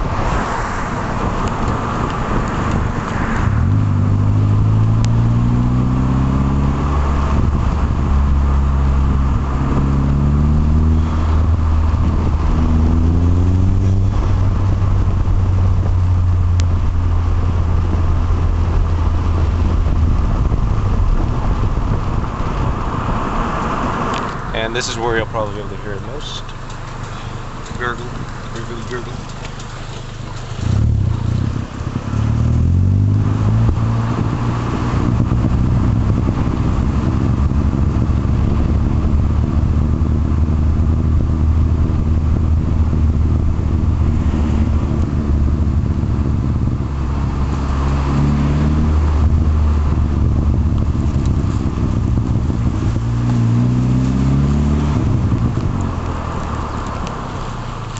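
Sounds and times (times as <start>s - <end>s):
turbocharged car engine gurgling: 0.0s - 57.9s.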